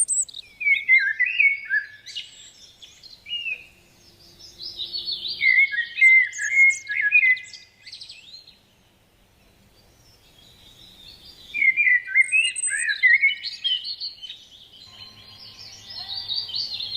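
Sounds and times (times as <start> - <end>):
songbird warbling: 0.0 - 8.6, 9.4 - 16.9.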